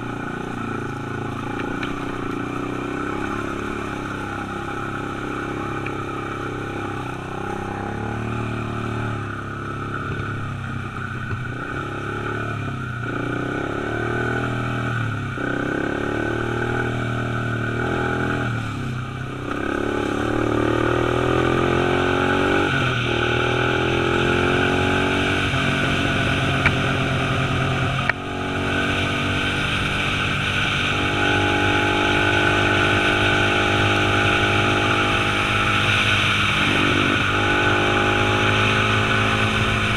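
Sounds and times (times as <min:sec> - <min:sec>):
dirt bike engine accelerating: 0:00.0 - 0:39.9.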